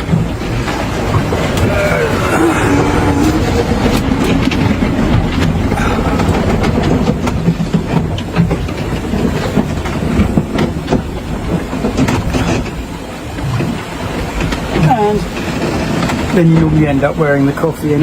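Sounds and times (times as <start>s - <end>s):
knocks and rattles: 0.0s - 18.0s
water rushing against hull: 0.0s - 18.0s.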